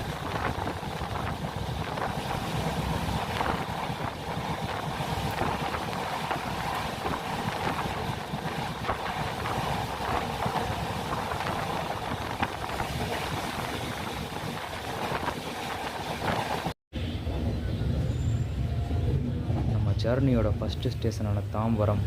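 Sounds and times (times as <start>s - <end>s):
rushing noise: 0.0s - 20.0s
train coach rumbling on track: 0.0s - 22.0s.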